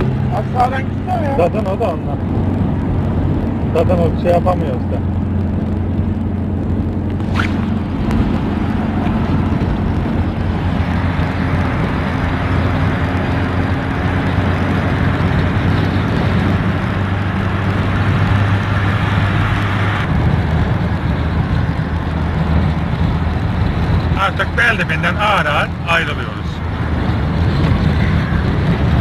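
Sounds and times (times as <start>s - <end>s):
car engine hum: 0.0s - 29.0s
road and wind noise: 0.0s - 29.0s.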